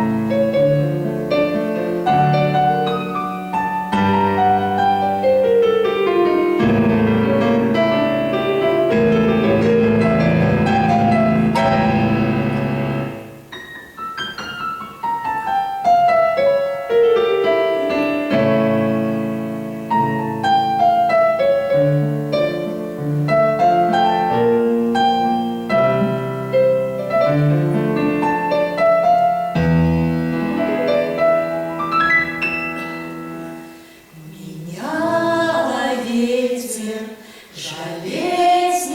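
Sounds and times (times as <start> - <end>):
piano playing: 0.0 - 34.4.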